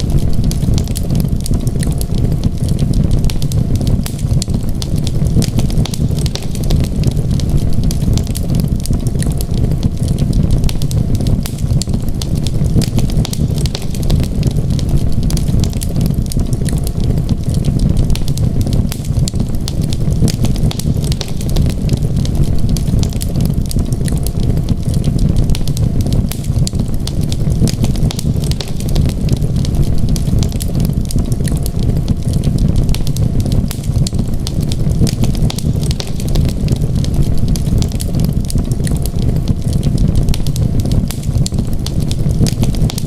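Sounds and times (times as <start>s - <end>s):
steady low rumble: 0.0s - 43.0s
wood fire crackling and popping: 0.0s - 43.0s.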